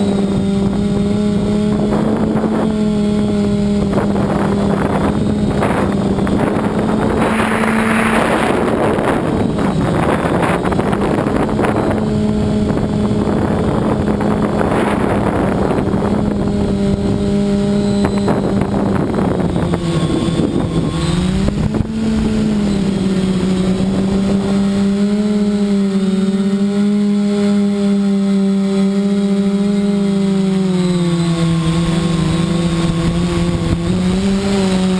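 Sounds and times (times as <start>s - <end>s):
gusty wind over microphone: 0.0s - 28.1s, 31.2s - 34.9s
drone propellers humming: 0.0s - 34.9s.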